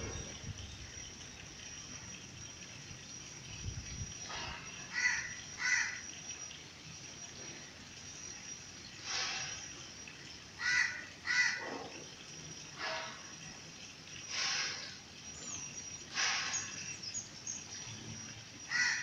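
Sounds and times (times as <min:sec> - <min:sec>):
high-pitched insect drone: 0:00.0 - 0:10.1, 0:12.2 - 0:19.0.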